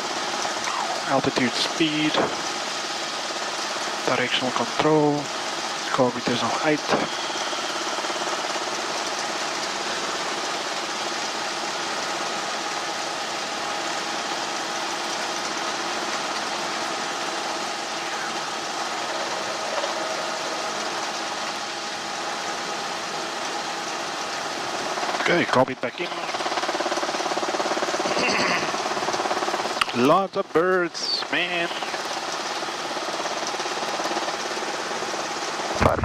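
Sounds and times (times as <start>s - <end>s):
helicopter engine and rotor drone: 0.0s - 36.0s.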